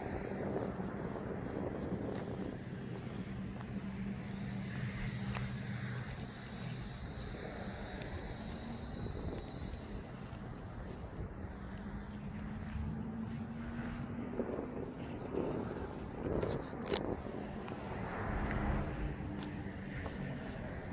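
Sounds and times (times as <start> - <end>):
outdoor noise: 0.0 - 20.9
vehicle engine humming: 0.0 - 20.9.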